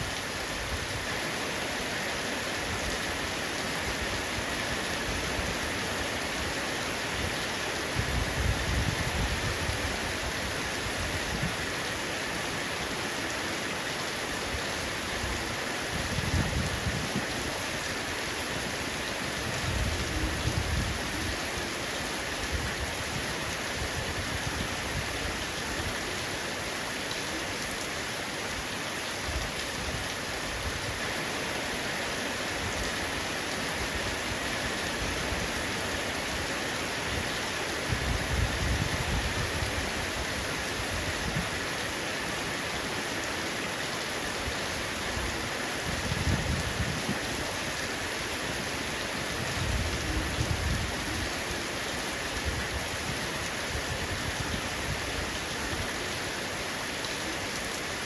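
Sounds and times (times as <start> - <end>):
heavy rain drumming on a roof: 0.0 - 58.0.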